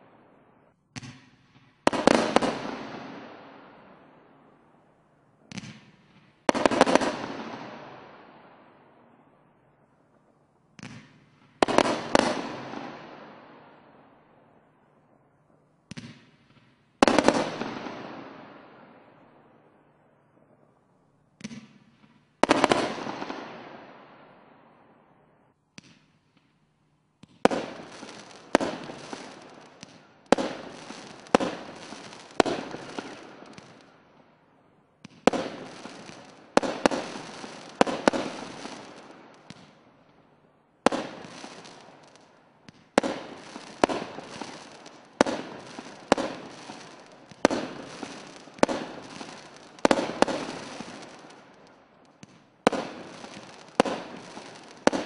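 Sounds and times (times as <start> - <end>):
fireworks reports with crackly tails: 0.0 - 9.4, 10.0 - 26.5, 27.2 - 55.0.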